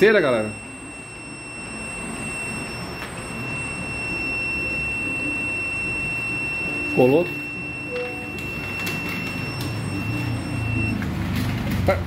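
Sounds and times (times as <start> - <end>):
high-pitched electronic buzzer tone: 0.0 - 11.0.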